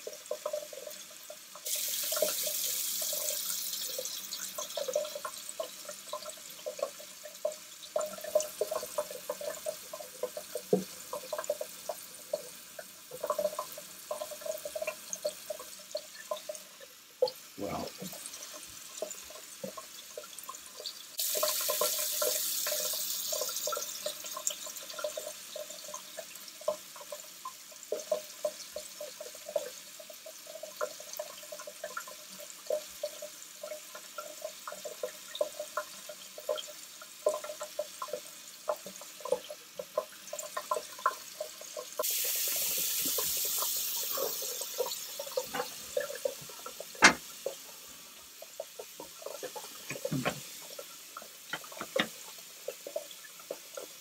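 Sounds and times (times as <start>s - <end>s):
faucet running: 0.0s - 54.0s.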